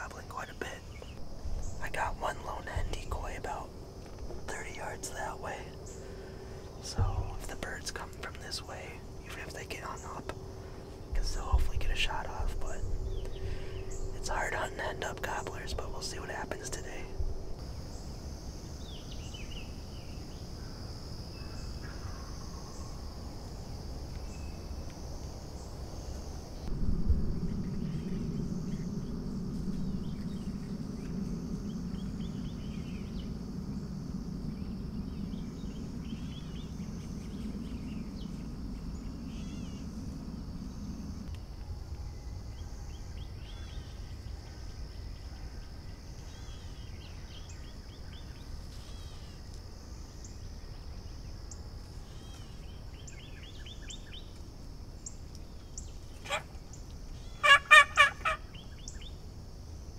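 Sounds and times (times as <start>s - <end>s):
low hum: 0.0s - 57.0s
insects trilling: 0.0s - 59.9s
songbirds chirping: 0.0s - 59.9s.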